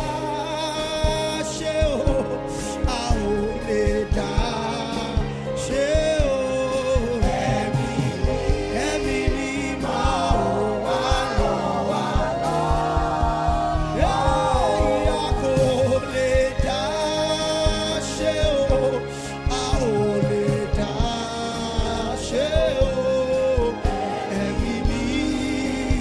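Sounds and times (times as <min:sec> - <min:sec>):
band with drums: 0:00.0 - 0:26.0
voices singing together: 0:00.0 - 0:26.0.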